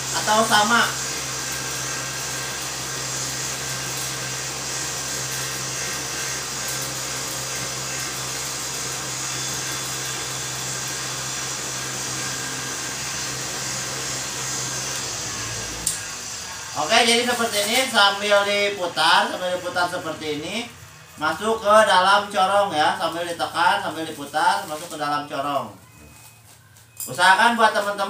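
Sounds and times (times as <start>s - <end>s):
cotton candy machine whirring: 0.0s - 28.0s.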